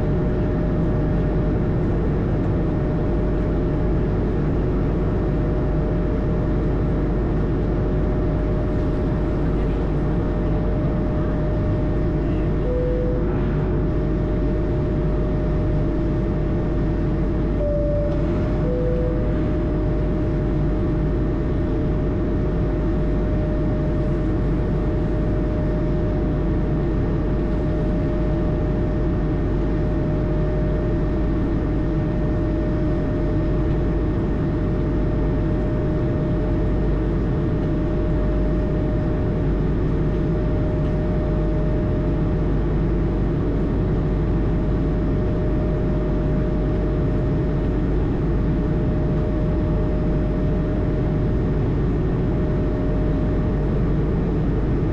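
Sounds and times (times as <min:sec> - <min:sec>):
constant whining tone: 0:00.0 - 0:54.9
jet engine and airflow roar: 0:00.0 - 0:54.9.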